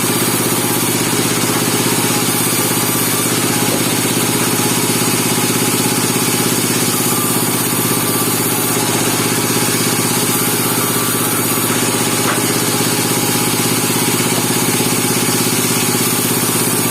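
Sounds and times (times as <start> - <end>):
sawmill engine running: 0.0 - 16.9.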